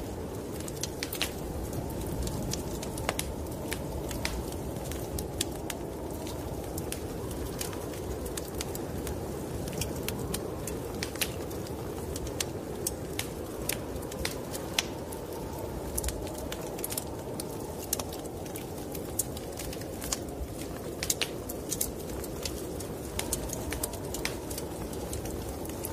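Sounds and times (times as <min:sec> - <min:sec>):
snowstorm wind rushing: 0:00.0 - 0:25.9
wood fire crackling and popping: 0:00.0 - 0:25.9.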